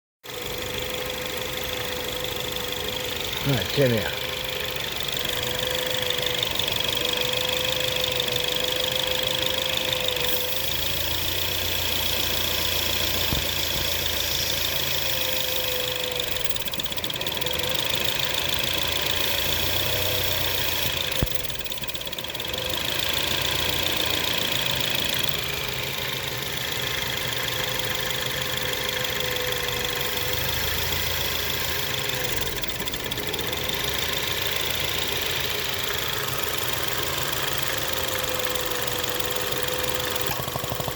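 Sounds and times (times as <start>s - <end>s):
car engine idling: 0.2s - 40.9s.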